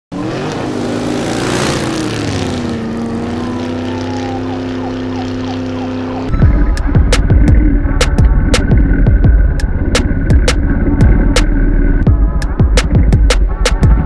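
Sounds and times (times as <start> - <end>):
vehicle-like droning: 0.1 - 14.0.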